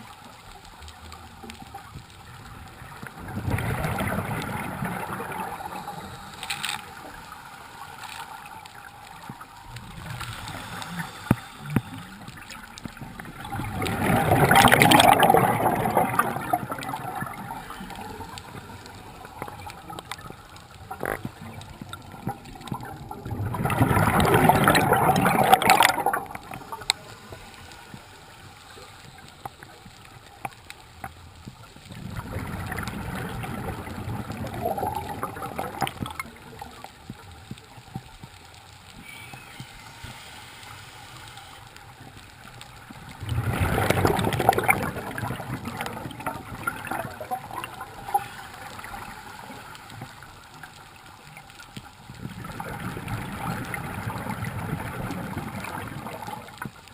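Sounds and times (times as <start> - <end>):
underwater bubbles gurgling: 0.0 - 56.9.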